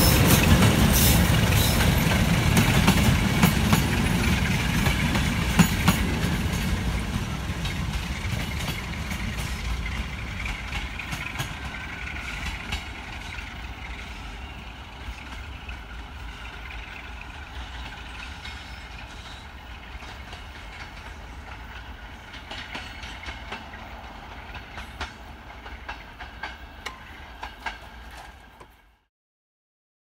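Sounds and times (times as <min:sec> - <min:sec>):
wheels clattering over rail joints: 0:00.0 - 0:28.9
train rumbling: 0:00.0 - 0:29.1.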